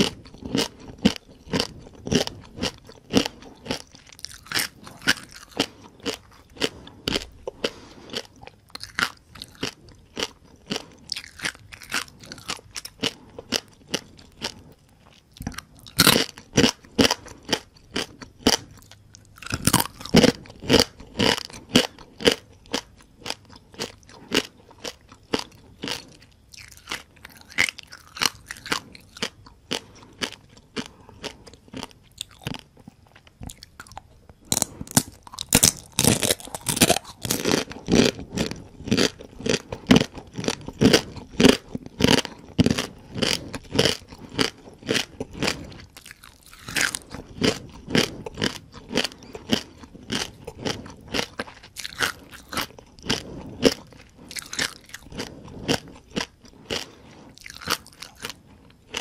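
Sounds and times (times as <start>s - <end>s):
crunching and chewing fried crabs: 0.0s - 59.0s.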